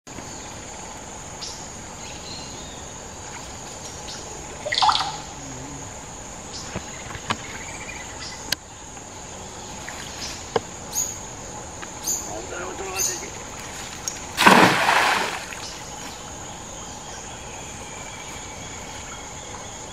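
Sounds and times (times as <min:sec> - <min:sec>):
insects droning: 0:00.1 - 0:19.9.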